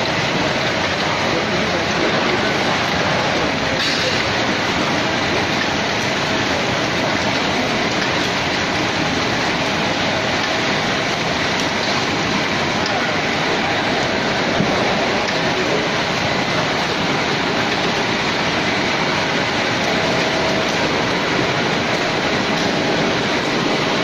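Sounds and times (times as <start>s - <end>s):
processing machine running: 0.0s - 24.0s.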